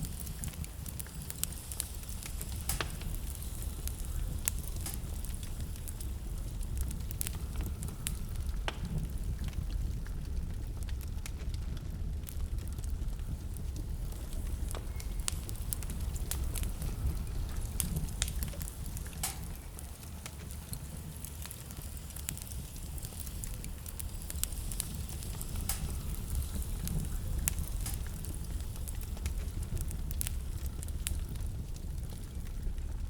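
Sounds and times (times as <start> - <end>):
blizzard wind rumbling: 0.0 - 33.0
wood fire crackling: 0.0 - 33.0.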